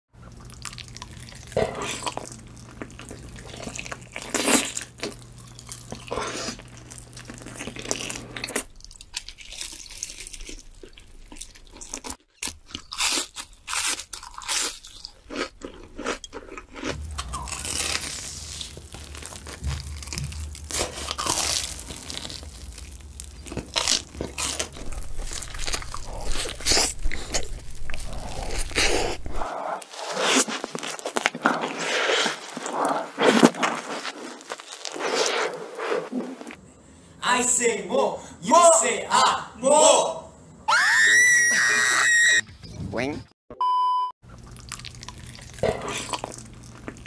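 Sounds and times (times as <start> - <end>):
crunchy biting and chewing: 0.2 - 36.6, 44.3 - 47.0.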